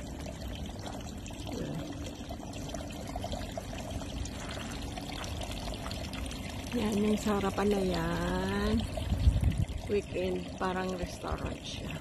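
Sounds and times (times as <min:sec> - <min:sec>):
water pouring into fountain basin: 0:00.0 - 0:12.0.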